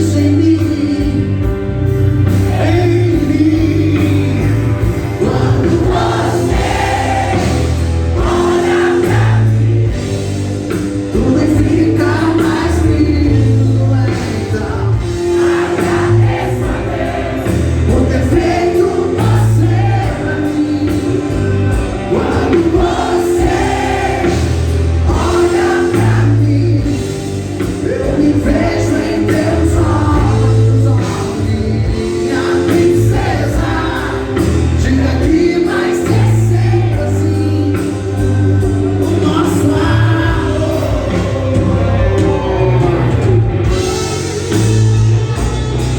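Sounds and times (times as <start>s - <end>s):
pop song with vocal harmonies: 0.0s - 43.5s.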